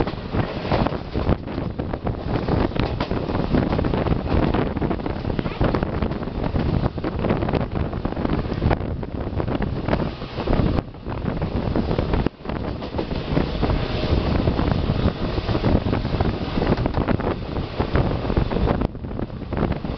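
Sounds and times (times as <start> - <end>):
train wheels rumbling: 0.0 - 19.9
wind buffeting microphone: 0.0 - 19.9.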